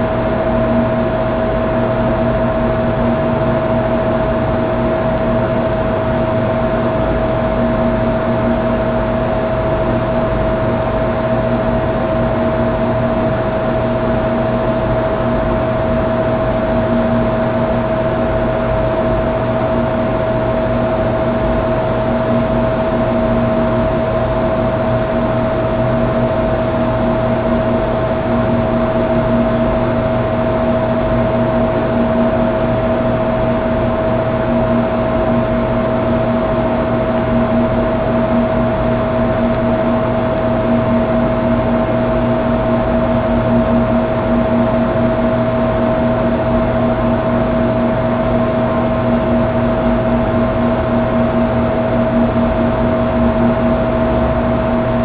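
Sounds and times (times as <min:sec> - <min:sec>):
steady hum: 0:00.0 - 0:55.0.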